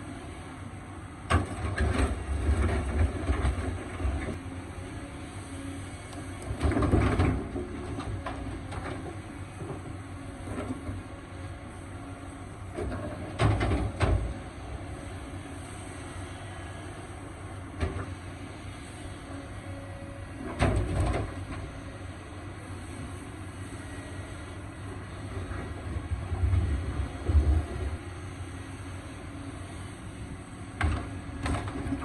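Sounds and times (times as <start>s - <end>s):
excavator engine rumble: 0.0s - 32.0s.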